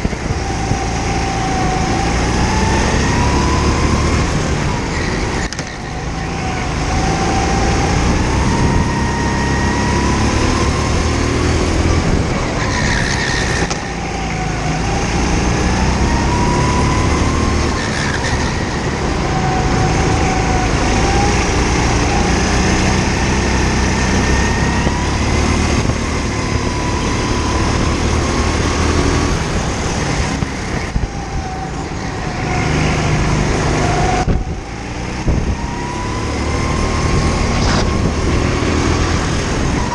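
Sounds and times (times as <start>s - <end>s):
go-kart engine: 0.0s - 39.9s.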